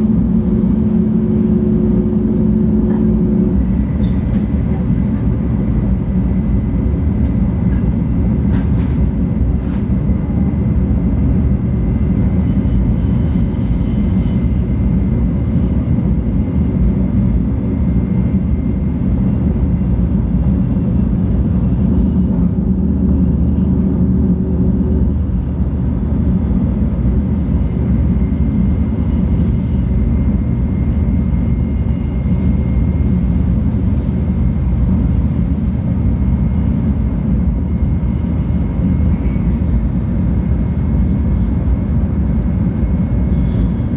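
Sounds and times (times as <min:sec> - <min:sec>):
train cabin low rumble: 0:00.0 - 0:43.9.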